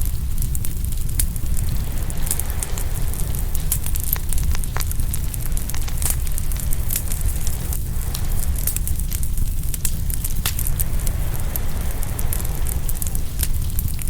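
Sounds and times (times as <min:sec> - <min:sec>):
low rumble: 0:00.0 - 0:14.0
wood fire crackling and popping: 0:00.0 - 0:14.0.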